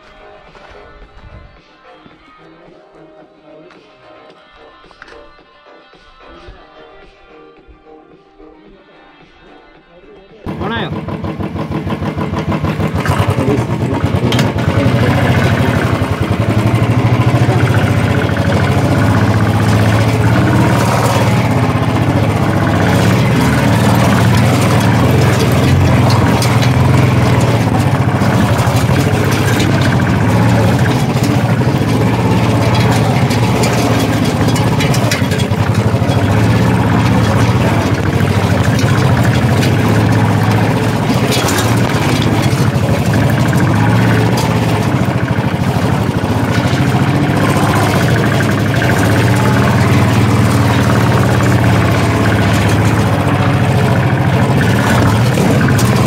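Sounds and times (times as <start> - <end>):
motorcycle engine running under load: 10.5 - 56.0.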